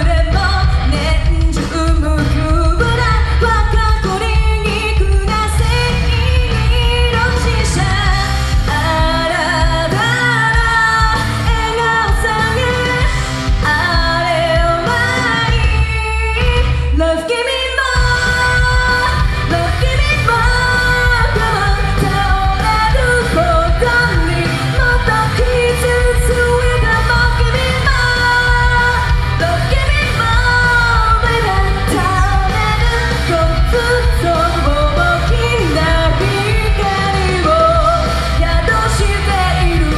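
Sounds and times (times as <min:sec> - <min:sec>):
pop-rock backing music: 0:00.0 - 0:39.9
woman singing into microphone: 0:00.0 - 0:39.9.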